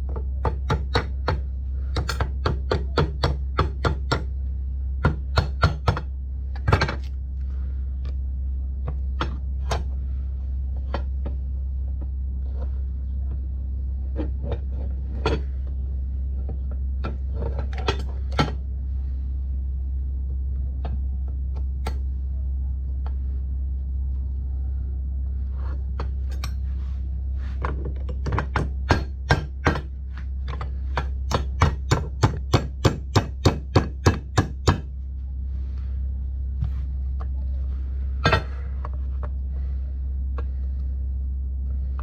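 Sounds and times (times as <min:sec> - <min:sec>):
constant low hum: 0:00.0 - 0:42.0.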